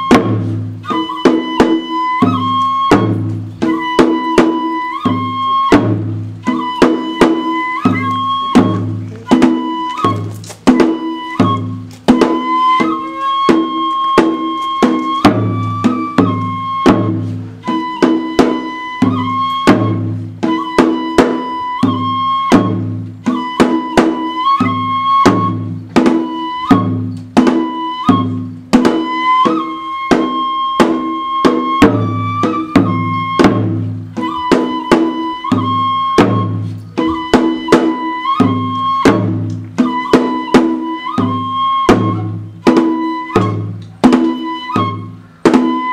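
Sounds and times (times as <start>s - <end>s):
steady drum beats: 0.0s - 45.9s
transverse flute playing held notes: 0.0s - 45.9s.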